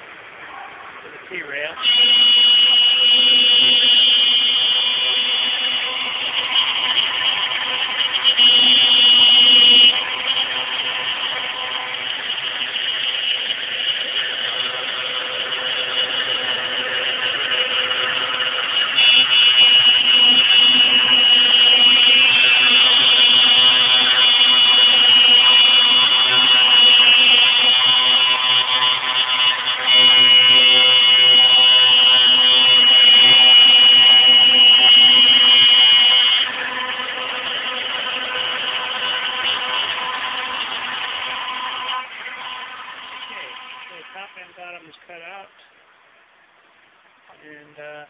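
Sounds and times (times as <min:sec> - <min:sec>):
router spindle whining: 0:01.8 - 0:45.1.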